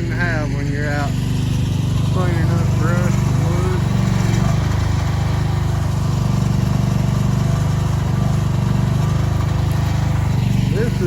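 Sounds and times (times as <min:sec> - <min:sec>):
earth-moving machine engine running: 0:00.0 - 0:11.0.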